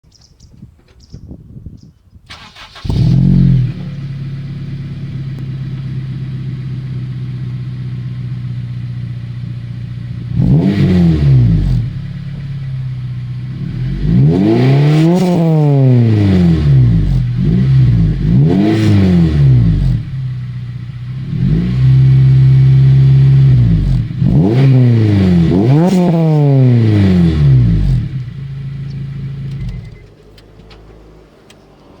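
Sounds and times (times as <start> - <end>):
car engine idling and revving: 2.3 - 32.0.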